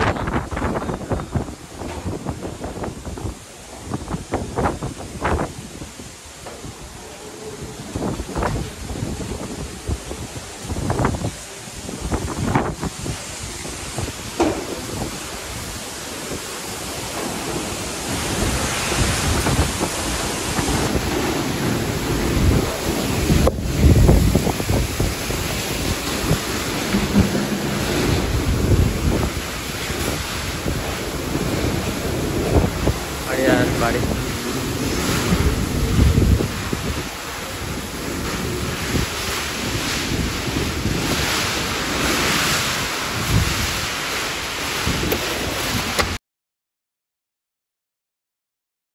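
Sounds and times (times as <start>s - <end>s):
wind buffeting microphone: 0.0s - 46.2s.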